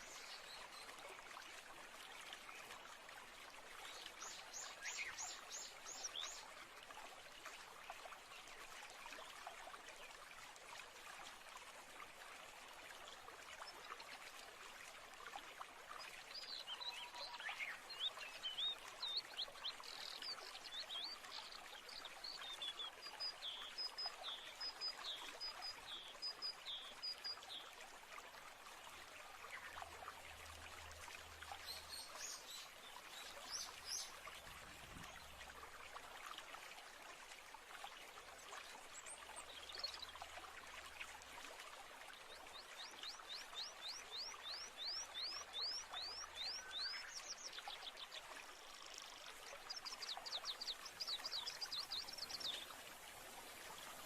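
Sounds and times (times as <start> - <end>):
running stream: 0.0 - 54.0.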